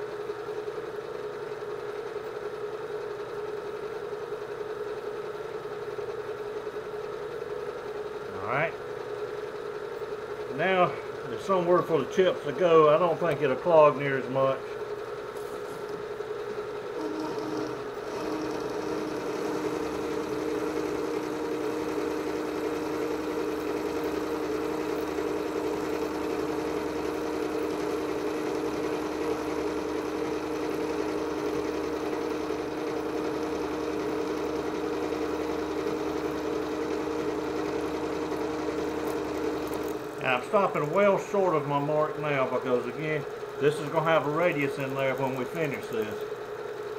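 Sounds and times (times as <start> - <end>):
milling machine hum: 0.0 - 46.9.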